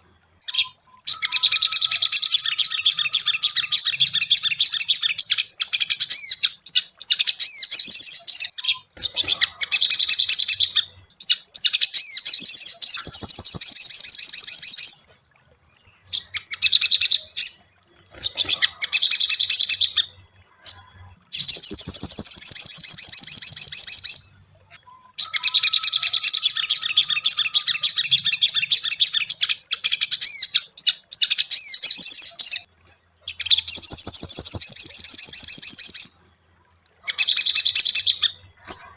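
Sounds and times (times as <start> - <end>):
bird chattering twitters: 0.0 - 15.1, 15.8 - 36.2.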